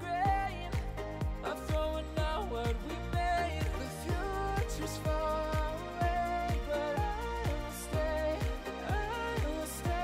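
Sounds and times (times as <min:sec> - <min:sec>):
electronic pop music: 0:00.0 - 0:10.0
kick drum beating: 0:00.3 - 0:10.0.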